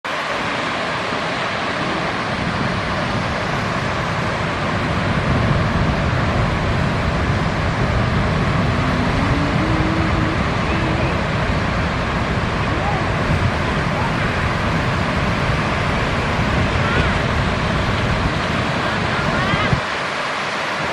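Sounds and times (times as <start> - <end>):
ocean surf breaking: 0.0 - 20.9.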